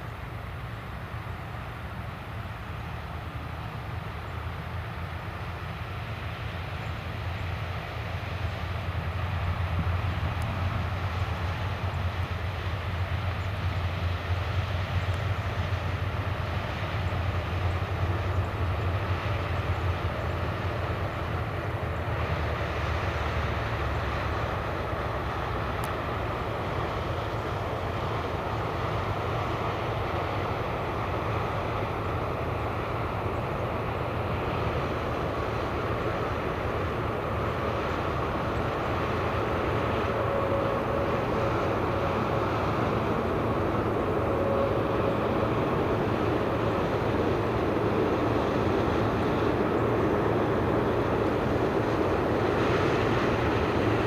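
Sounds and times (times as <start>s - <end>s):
diesel engine running: 0.0s - 54.0s
low hum: 8.5s - 54.0s.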